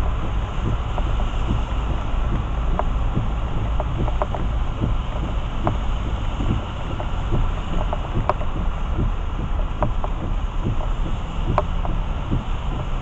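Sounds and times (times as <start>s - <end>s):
low rumble of car on wet road: 0.0s - 13.0s
raindrops tapping on car roof: 0.0s - 13.0s.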